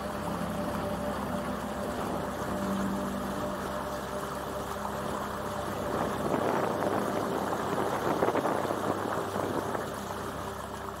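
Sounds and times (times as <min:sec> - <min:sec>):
small boat motor running: 0:00.0 - 0:11.0
water splashing along hull: 0:00.0 - 0:11.0.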